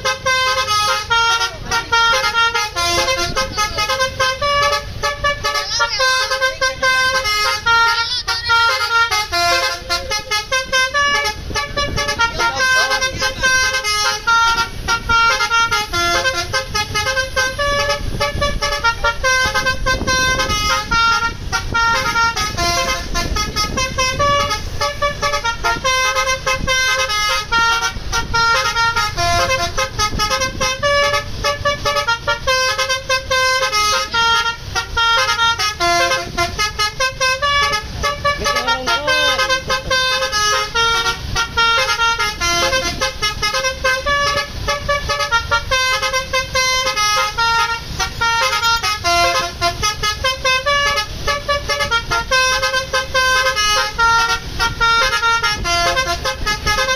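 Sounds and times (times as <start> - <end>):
bus engine rumble: 0.0 - 56.9
multi-tone air horn melody: 0.0 - 56.9.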